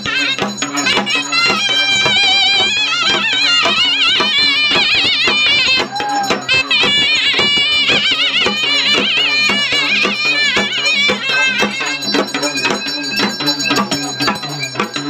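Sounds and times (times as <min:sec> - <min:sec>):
high wavering melody: 0:00.0 - 0:15.0
regular drumbeat: 0:00.0 - 0:15.0.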